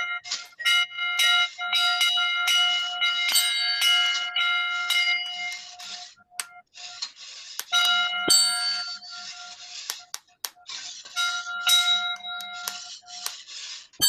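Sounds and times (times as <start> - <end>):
ringing metallic tone: 0.0 - 7.0, 7.7 - 13.3.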